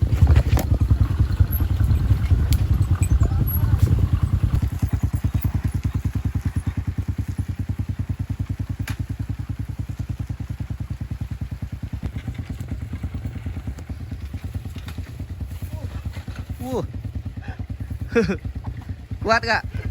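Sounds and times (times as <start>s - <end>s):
motorcycle engine at low revs: 0.0s - 19.9s.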